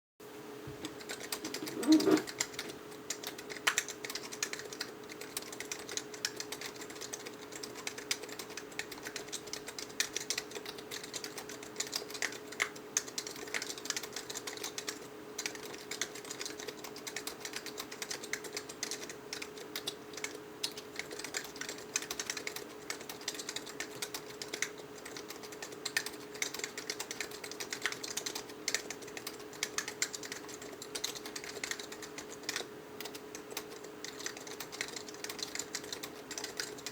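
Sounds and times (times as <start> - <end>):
faint steady hum: 0.2 - 36.9.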